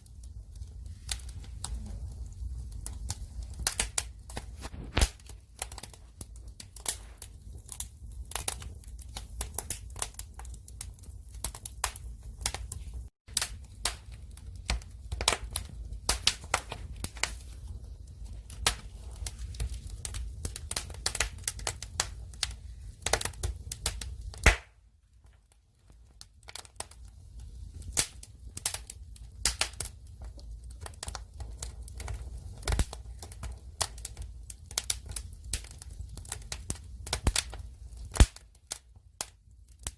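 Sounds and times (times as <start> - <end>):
burning wood crackling: 0.0 - 39.9
low fire rumble: 0.0 - 39.9.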